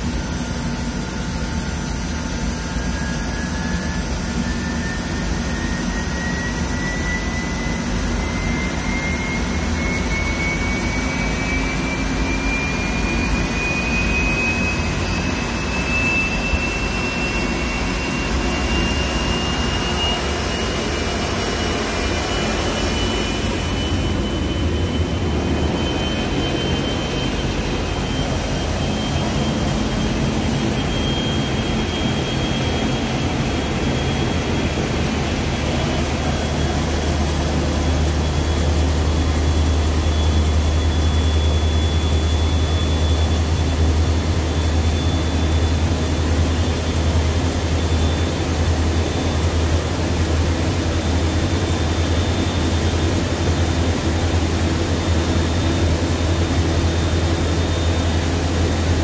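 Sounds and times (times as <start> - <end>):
rising mechanical whine: 0.0 - 59.0
washing machine spinning: 0.0 - 59.0.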